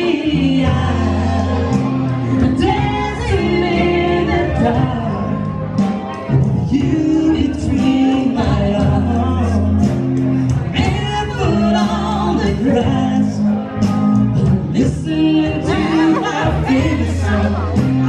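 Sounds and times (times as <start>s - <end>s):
held bass notes: 0.0s - 18.0s
person singing: 0.0s - 18.0s.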